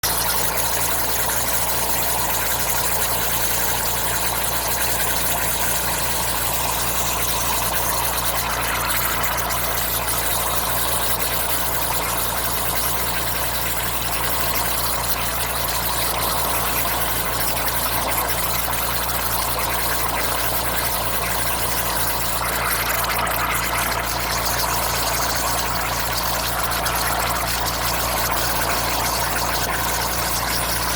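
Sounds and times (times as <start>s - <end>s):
water hissing from leaking pipe: 0.0s - 30.9s.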